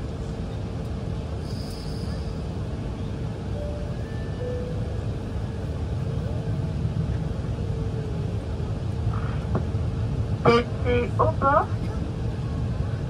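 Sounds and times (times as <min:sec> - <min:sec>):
low rumble inside aircraft cabin: 0:02.2 - 0:13.0.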